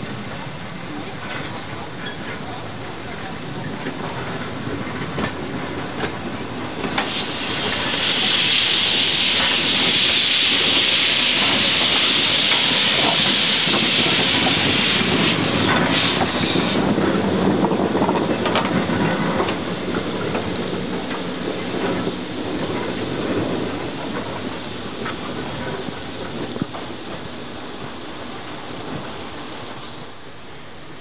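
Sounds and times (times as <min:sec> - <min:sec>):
locomotive rumbling on rails: 0:00.0 - 0:31.0
steam locomotive hissing steam: 0:00.0 - 0:31.0.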